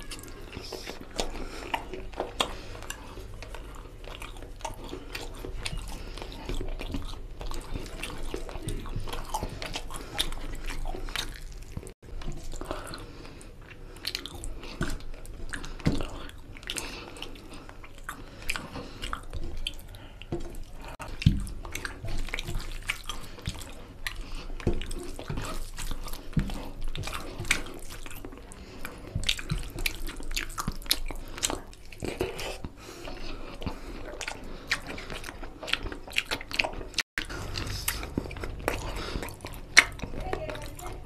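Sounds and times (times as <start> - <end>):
wet chewing and mouth smacks: 0.0 - 41.0.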